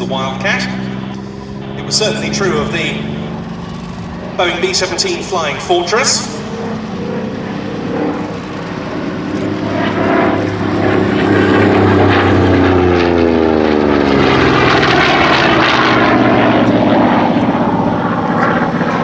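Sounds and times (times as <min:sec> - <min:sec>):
propeller plane engine passing: 0:00.0 - 0:19.0.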